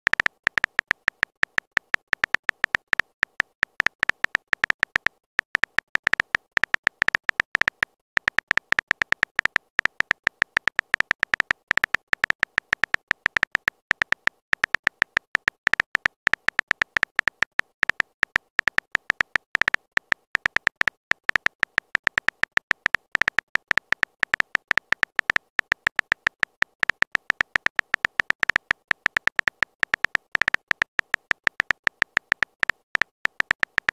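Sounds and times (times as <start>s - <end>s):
keyboard typing clicks: 0.0s - 33.9s.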